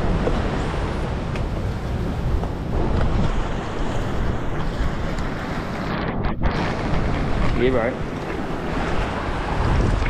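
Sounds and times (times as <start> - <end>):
swell surging against rocks: 0.0 - 10.0
wind buffeting microphone: 0.0 - 10.0.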